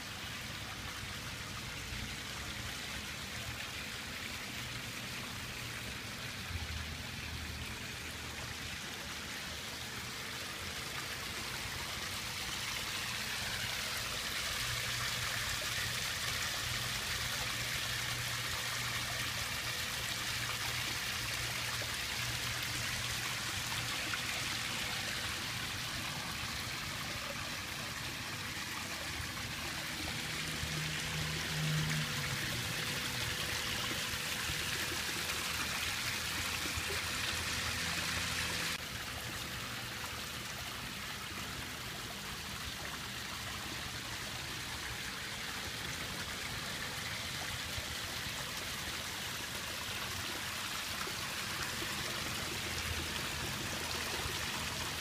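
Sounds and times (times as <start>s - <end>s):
waterfall splashing into pond: 0.0s - 55.0s.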